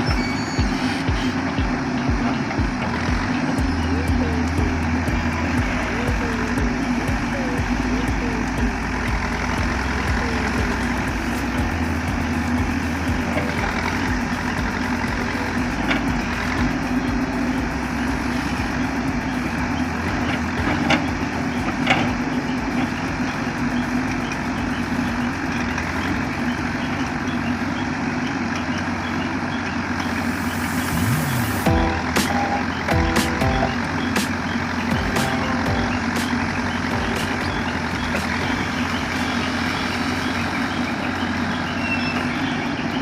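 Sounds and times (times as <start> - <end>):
diesel machinery engine drone: 0.0 - 43.0.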